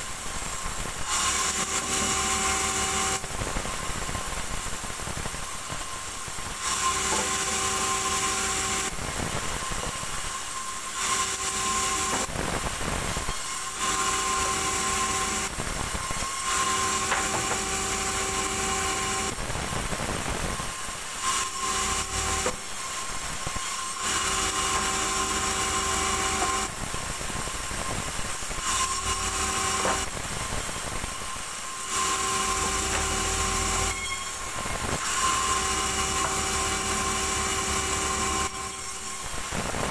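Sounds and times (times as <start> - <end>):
steady machine whine: 0.0 - 39.9
band saw cutting wood: 1.0 - 3.9, 6.0 - 27.8, 28.4 - 39.9.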